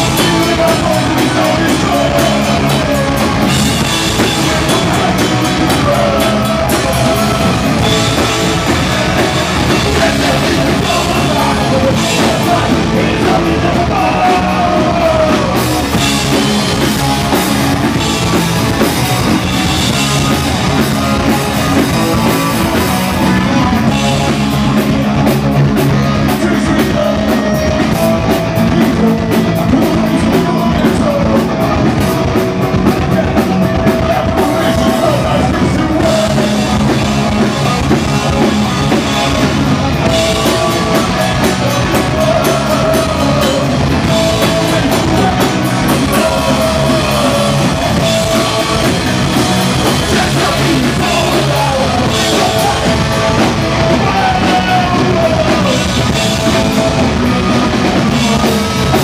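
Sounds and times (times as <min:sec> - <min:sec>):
bass guitar: 0:00.0 - 0:59.0
drum kit with cymbals: 0:00.0 - 0:59.0
electric guitars: 0:00.0 - 0:59.0
person singing: 0:00.0 - 0:59.0.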